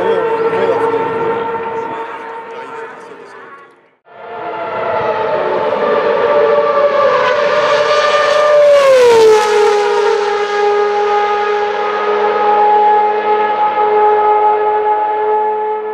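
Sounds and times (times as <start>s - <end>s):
racing car engine at high revs: 0.0s - 15.9s.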